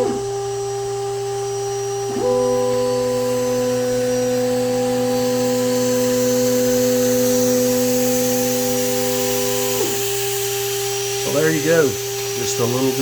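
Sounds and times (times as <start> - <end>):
spindle high-pitched whine: 0.0 - 13.0
steady motor tone: 0.0 - 13.0.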